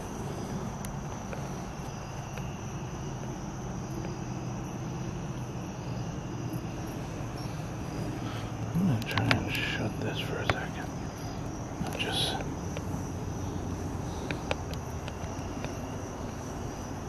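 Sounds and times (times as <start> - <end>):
low steady hum: 0.0 - 17.0
night insects trilling: 0.0 - 17.0.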